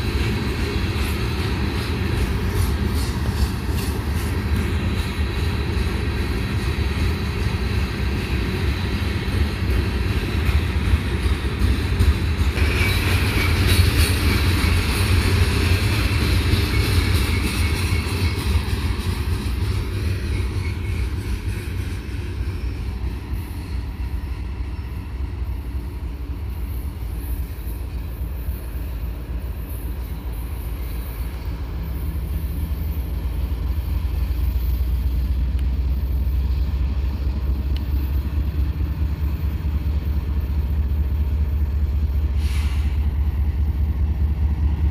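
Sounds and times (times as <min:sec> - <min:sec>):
freight train rumble: 0:00.0 - 0:44.9
high-pitched wheel and rail noise: 0:00.0 - 0:44.9.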